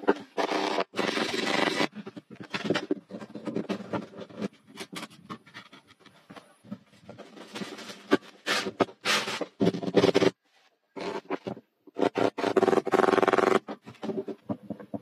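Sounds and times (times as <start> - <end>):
knocks scrapes and creaks of timber: 0.0 - 15.0.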